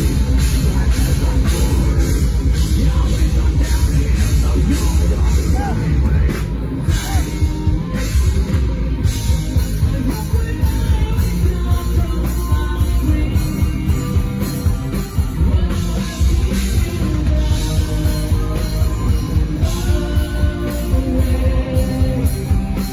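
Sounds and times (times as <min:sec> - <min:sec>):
rock band playing live: 0:00.0 - 0:22.9.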